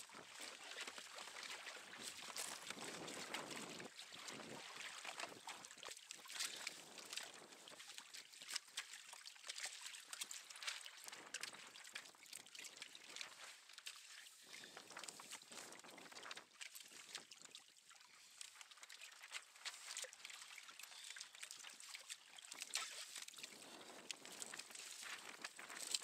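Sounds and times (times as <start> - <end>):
water lapping against kayak hull: 0.0 - 26.0.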